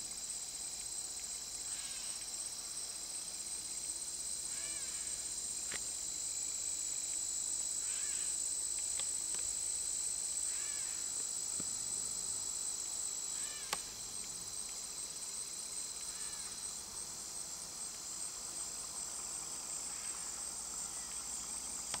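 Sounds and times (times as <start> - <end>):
insect chorus trilling: 0.1 - 22.0.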